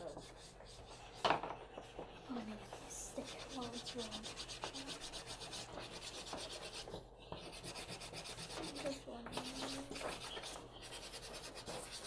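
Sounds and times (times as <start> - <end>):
chalk pastels rubbing on paper: 0.0 - 12.0.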